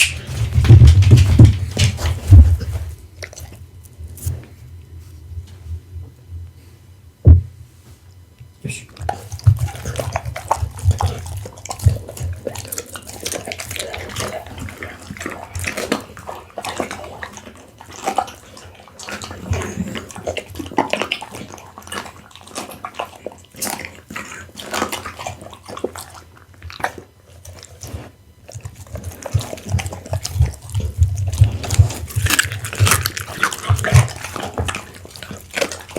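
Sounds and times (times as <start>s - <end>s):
dog chewing food: 0.0s - 5.8s, 8.4s - 35.9s.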